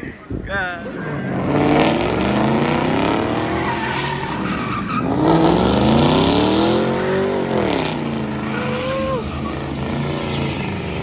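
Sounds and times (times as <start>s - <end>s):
car engine revving hard: 0.9s - 11.0s
tyre squeal: 0.9s - 11.0s.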